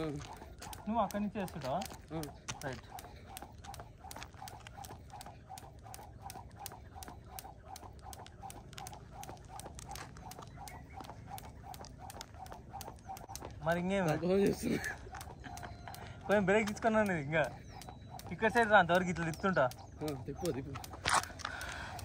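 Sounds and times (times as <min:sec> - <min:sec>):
skipping rope ticking on ground: 0:00.0 - 0:22.0.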